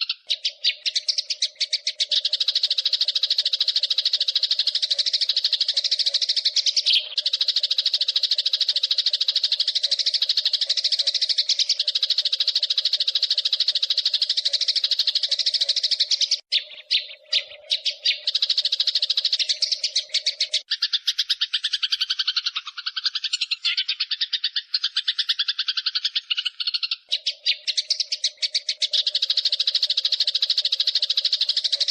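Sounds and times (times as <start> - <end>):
lower pitched chirping: 0.0 - 31.9
sparrows chirping rapidly: 0.0 - 31.9.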